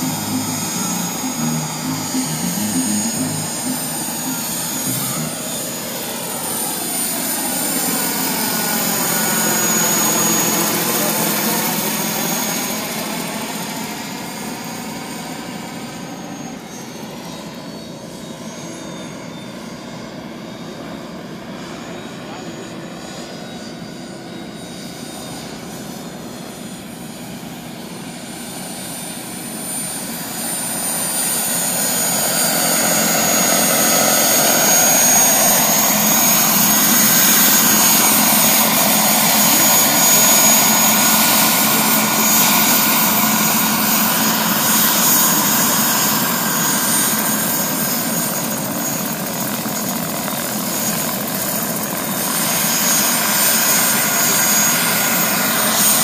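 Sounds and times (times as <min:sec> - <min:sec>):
helicopter rotor noise: 0:00.0 - 0:56.0
model helicopter whine: 0:00.0 - 0:56.0.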